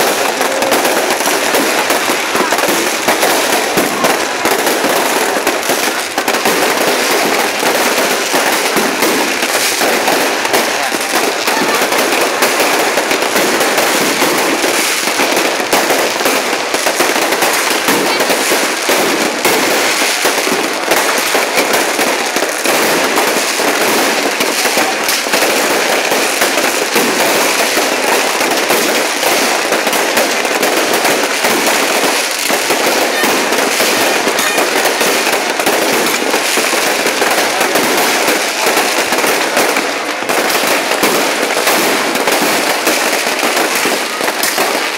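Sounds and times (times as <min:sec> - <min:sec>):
fireworks crackling and popping: 0:00.0 - 0:44.9.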